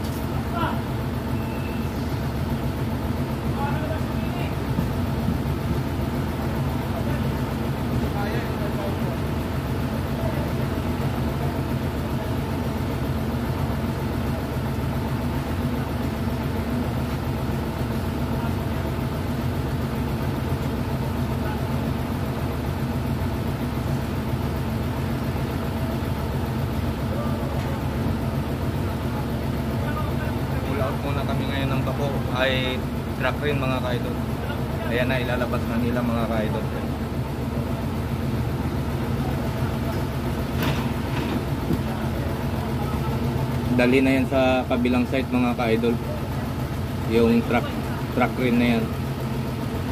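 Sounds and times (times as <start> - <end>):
crane engine idling: 0.0 - 49.9.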